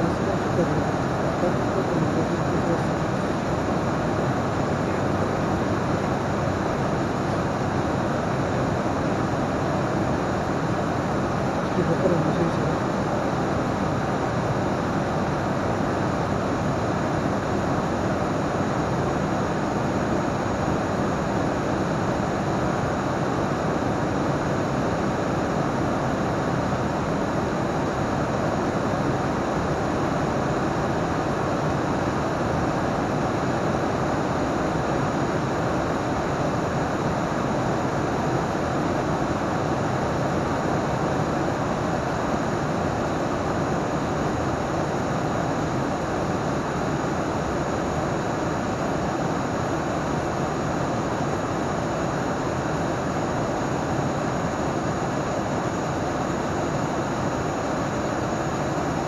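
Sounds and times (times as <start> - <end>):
turboprop engine drone in cockpit: 0.0 - 59.0.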